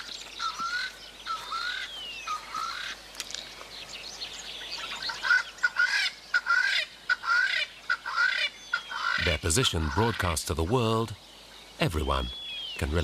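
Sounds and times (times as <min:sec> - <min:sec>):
birds harsh alarm calls: 0:00.0 - 0:13.0.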